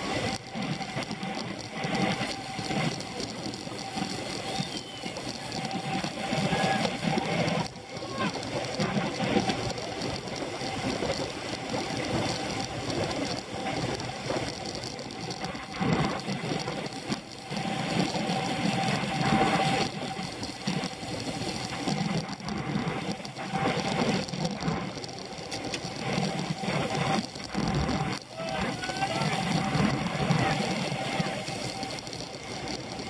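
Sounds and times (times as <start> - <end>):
faint steady whine: 0.0 - 33.0
road bike rattling and whirring: 0.0 - 33.0.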